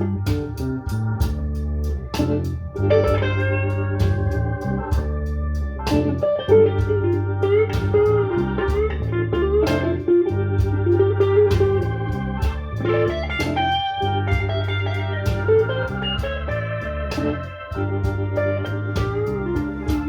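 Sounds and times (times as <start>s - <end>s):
bass and drums: 0.0s - 20.0s
blues electric guitar solo: 0.0s - 20.0s.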